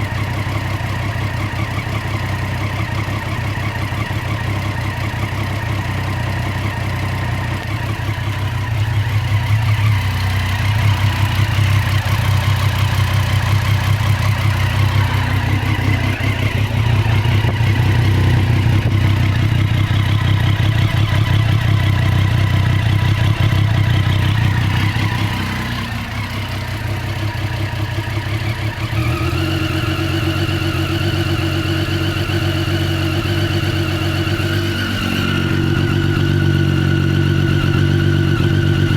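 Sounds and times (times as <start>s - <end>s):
motorcycle engine idling unevenly: 0.0s - 38.9s.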